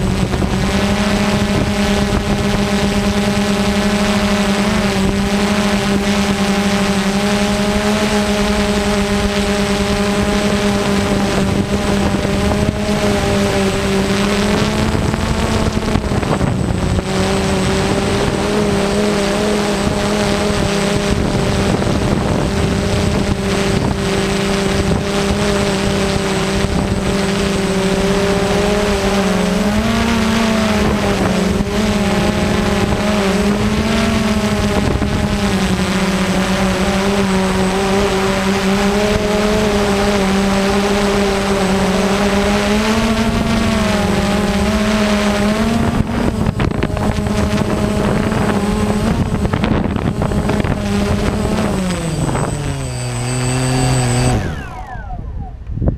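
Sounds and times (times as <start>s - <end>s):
drone propellers humming: 0.0s - 55.9s.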